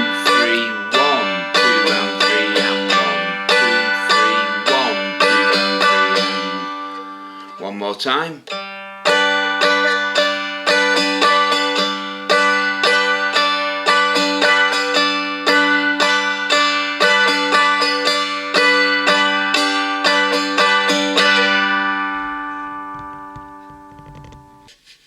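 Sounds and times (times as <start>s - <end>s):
droning strings: 0.0s - 24.7s
dulcimer strumming: 0.0s - 24.7s.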